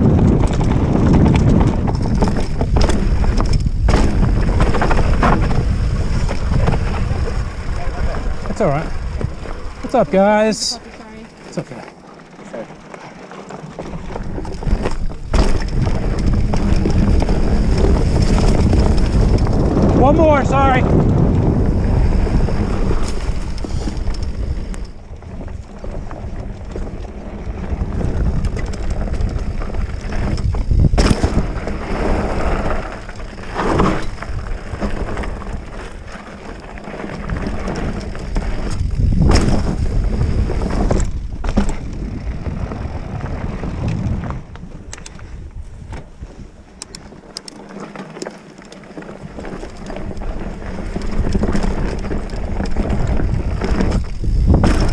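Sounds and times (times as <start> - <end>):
bike knocking over bumps: 0.0 - 9.8, 13.0 - 20.3, 20.9 - 44.6, 47.7 - 54.9
wind rushing over microphone: 0.0 - 10.8, 14.0 - 46.7, 49.3 - 54.9
bike tyres rolling on dirt: 0.0 - 54.9.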